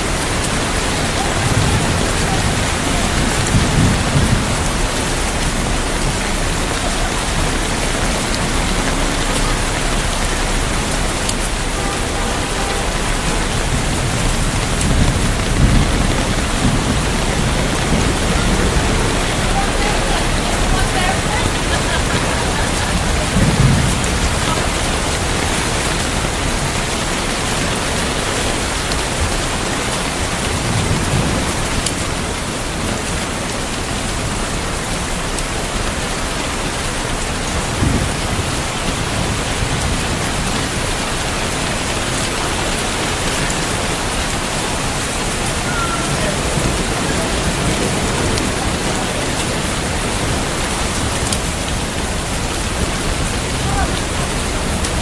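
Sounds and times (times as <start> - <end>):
heavy rain falling: 0.0 - 55.0
thunder rumbles: 0.0 - 55.0.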